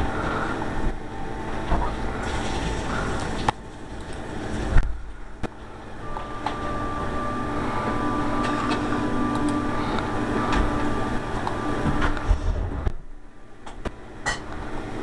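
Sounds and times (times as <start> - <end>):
mechanical drone with two tones: 0.0 - 15.0.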